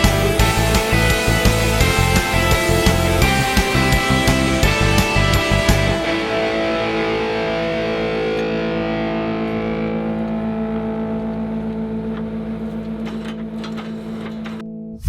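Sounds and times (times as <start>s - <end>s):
distorted electric guitar chord: 0.0s - 14.6s.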